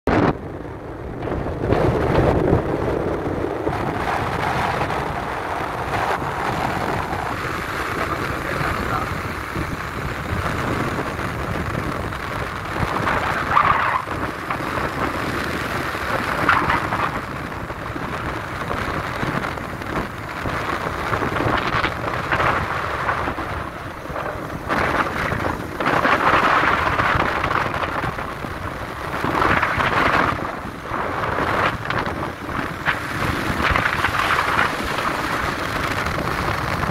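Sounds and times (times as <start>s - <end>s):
wind buffeting microphone: 0.1s - 36.9s.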